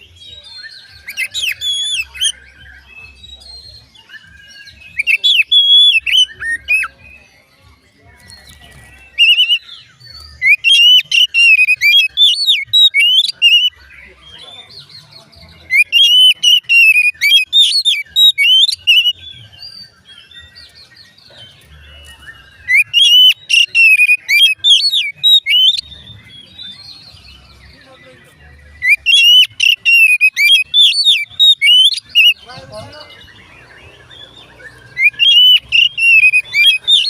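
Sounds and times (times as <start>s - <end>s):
bird singing whistled phrases: 0.0s - 7.3s, 8.2s - 37.0s.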